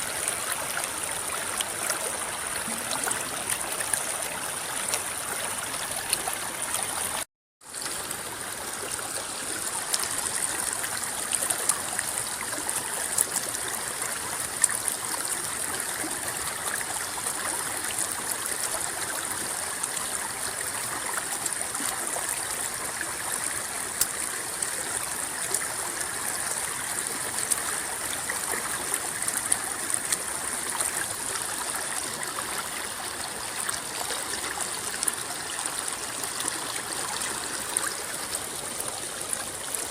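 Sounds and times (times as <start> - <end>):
river water flowing: 0.0 - 39.9
small water splashes: 0.0 - 39.9.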